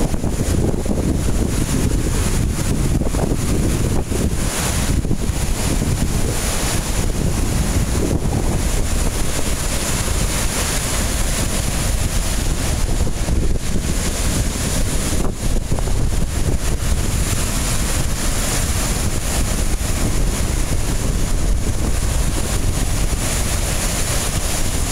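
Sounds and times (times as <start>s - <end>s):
waves breaking on shore: 0.0s - 24.9s
wind buffeting microphone: 0.0s - 24.9s.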